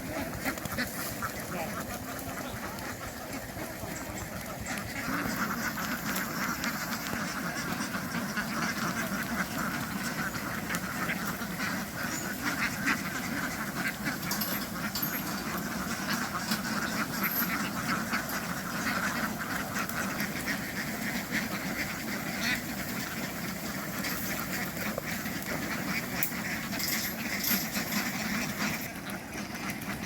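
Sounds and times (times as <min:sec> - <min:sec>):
ducks quacking: 0:00.0 - 0:30.0.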